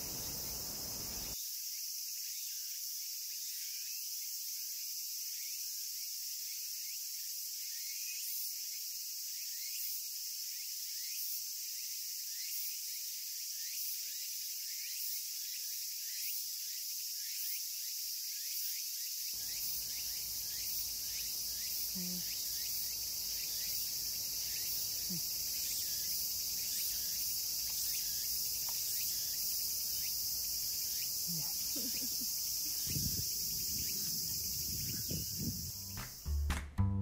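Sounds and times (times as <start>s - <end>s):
insect chorus chirping: 0.0s - 36.3s.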